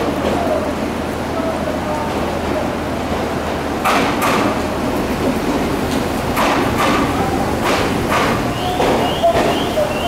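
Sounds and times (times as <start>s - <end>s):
train rumble: 0.0s - 10.0s
train wheels clacking over track: 1.6s - 10.0s.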